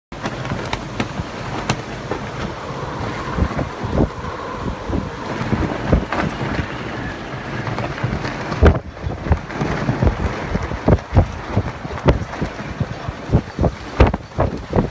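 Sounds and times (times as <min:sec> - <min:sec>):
gusting wind buffeting microphone: 0:00.2 - 0:14.9.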